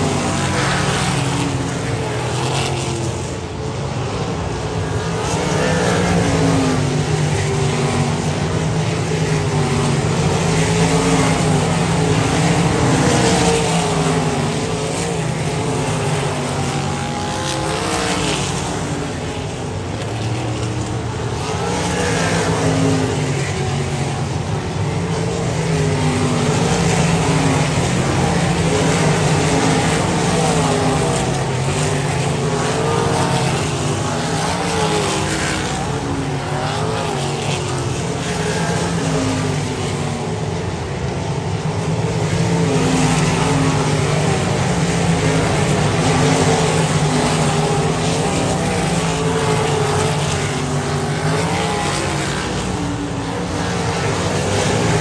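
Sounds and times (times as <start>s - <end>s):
race car engines at high revs: 0.0s - 55.0s.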